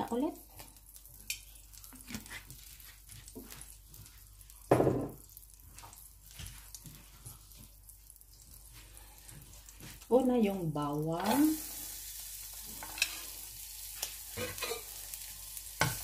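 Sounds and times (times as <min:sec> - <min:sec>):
oil crackling in frying pan: 0:00.0 - 0:16.0.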